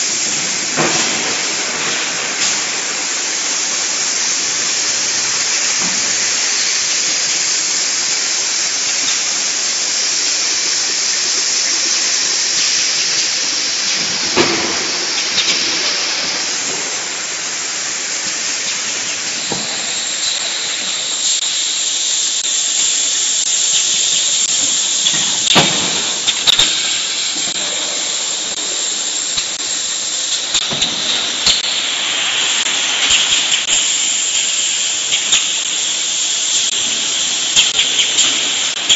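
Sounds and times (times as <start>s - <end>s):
high machine whine: 0.0s - 38.9s
loud machine hiss: 0.0s - 38.9s.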